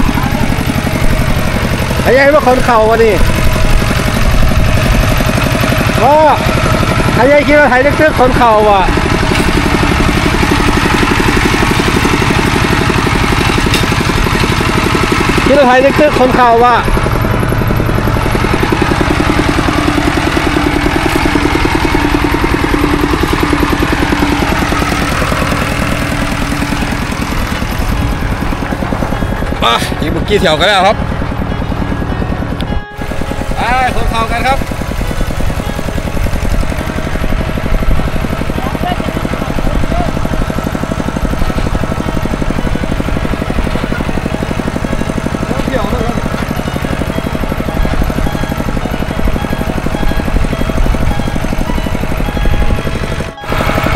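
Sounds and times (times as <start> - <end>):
diesel tractor engine chugging: 0.0 - 53.9.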